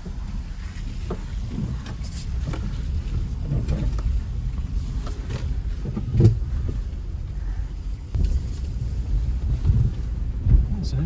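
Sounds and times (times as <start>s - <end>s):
car jolting knocks and thumps: 0.0s - 11.0s
car rumbling off-road: 0.0s - 11.0s.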